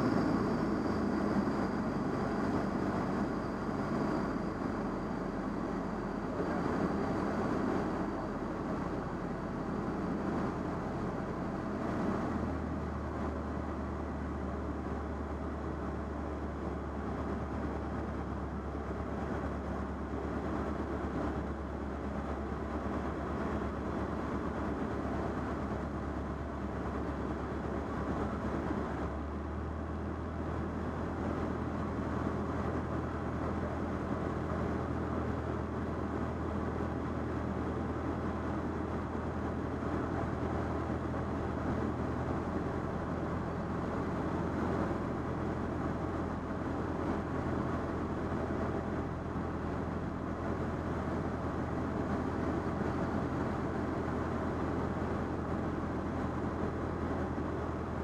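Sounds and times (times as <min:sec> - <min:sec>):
light aircraft engine and propeller: 0:00.0 - 0:58.0
rush of air noise: 0:00.0 - 0:58.0.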